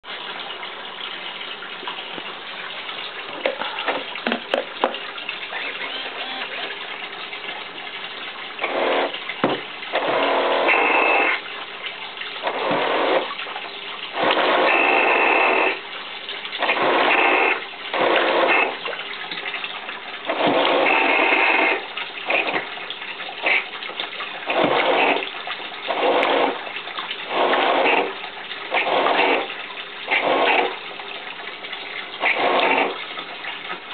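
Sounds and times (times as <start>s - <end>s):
rc boat motor churning water: 0.0s - 33.9s.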